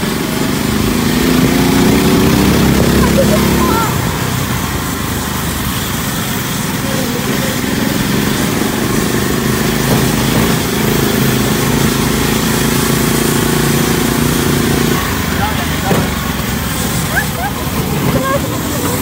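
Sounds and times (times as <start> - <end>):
buggy engine running: 0.0 - 19.0.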